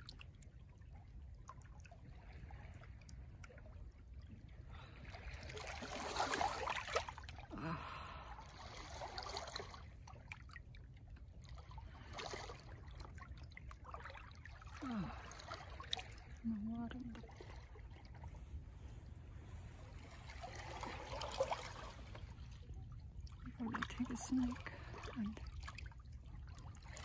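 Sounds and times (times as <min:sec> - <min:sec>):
low steady rumble: 0:00.0 - 0:27.0
small waves lapping on rocks: 0:01.9 - 0:10.8, 0:11.4 - 0:27.0.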